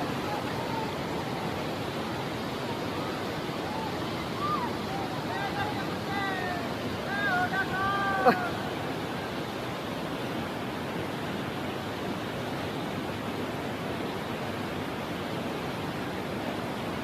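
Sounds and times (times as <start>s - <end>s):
river whitewater rushing: 0.0s - 17.0s.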